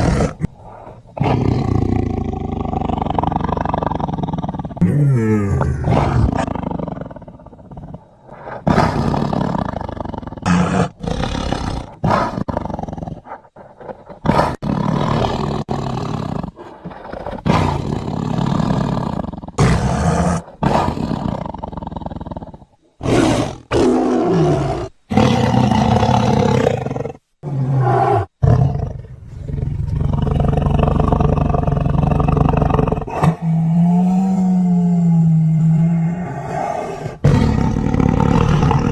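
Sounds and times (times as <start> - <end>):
tiger roaring and growling: 0.0 - 38.9.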